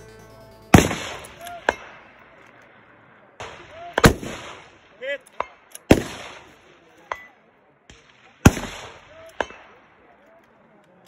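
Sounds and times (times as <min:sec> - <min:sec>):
rifle shots with echo: 0:00.7 - 0:10.8
faint sharp cracks: 0:00.8 - 0:11.0.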